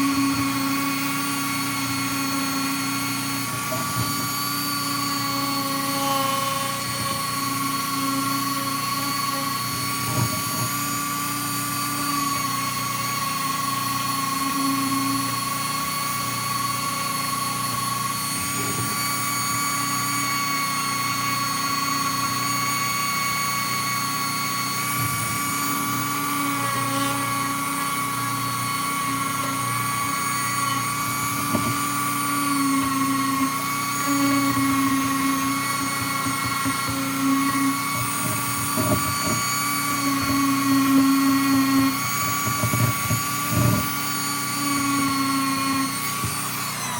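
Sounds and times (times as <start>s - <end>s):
power tool motor whining: 0.0s - 46.9s.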